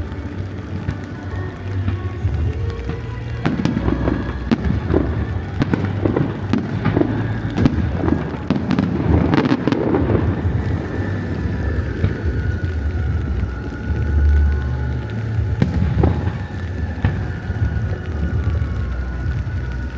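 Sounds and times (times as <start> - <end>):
fireworks bangs and crackles: 0.0 - 19.9
low steady rumble: 0.0 - 19.9
music: 0.0 - 19.9.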